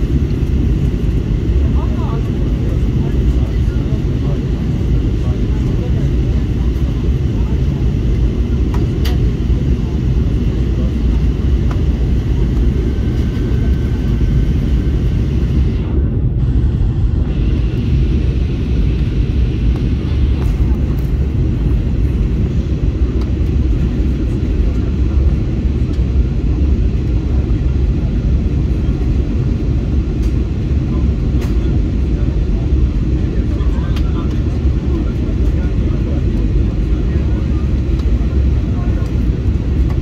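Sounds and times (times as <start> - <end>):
aircraft cabin engine rumble: 0.0 - 40.0.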